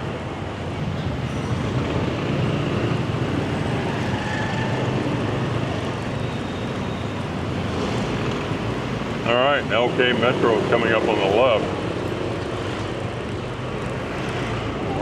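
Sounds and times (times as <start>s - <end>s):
motorbike engine and road noise: 0.0s - 15.0s.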